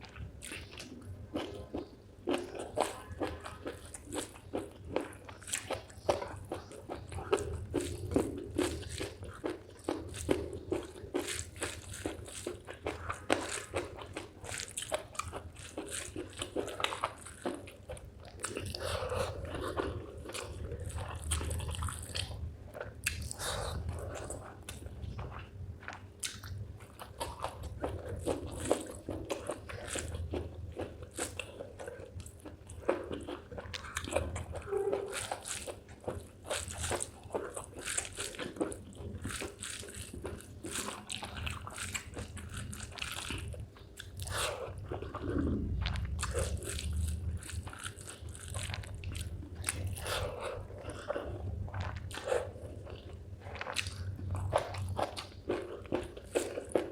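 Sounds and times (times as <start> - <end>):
crunchy chewing: 0.0 - 56.9.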